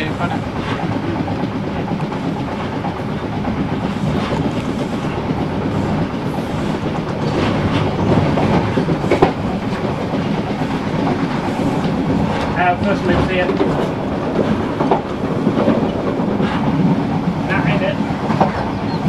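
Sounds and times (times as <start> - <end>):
rail clicks: 0.0 - 19.0
train wheels rumbling on rail: 0.0 - 19.0.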